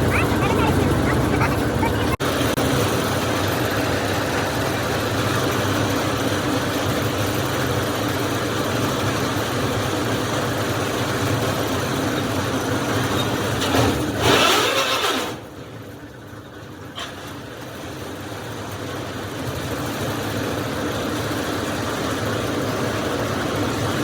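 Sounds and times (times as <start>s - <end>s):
drilling rig engine hum: 0.0s - 24.0s.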